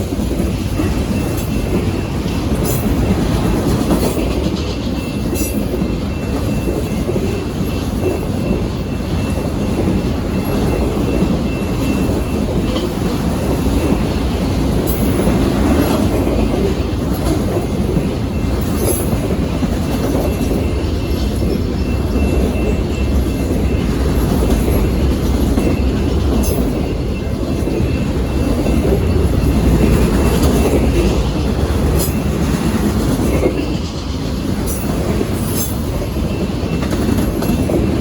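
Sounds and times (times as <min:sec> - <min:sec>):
train wheels rumbling on rails: 0:00.0 - 0:38.0
wheels clattering over rail joints: 0:00.0 - 0:38.0.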